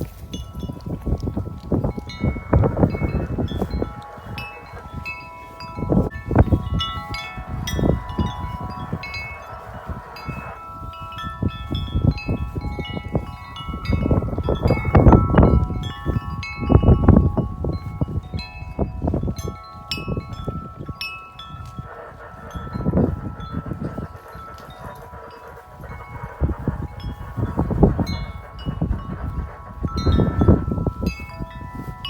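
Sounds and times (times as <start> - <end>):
wind buffeting microphone: 0.0 - 32.0
wind chime ringing: 0.0 - 32.0.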